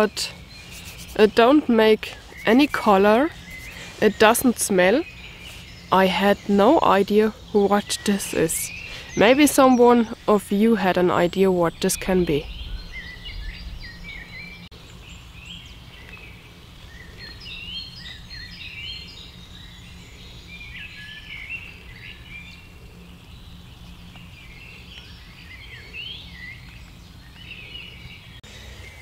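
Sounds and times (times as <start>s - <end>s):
low steady rumble: 0.0s - 29.0s
songbirds singing: 0.0s - 29.0s.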